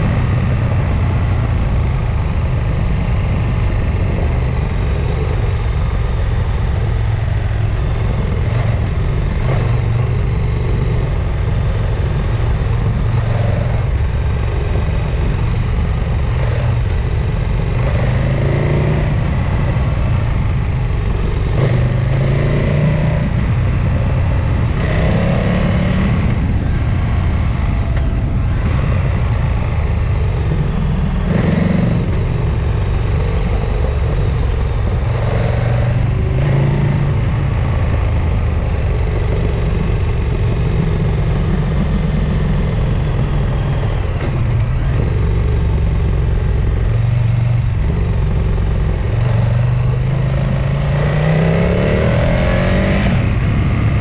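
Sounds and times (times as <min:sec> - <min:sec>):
vehicle engine revving: 0:00.0 - 0:54.0
wind and road noise: 0:00.0 - 0:54.0.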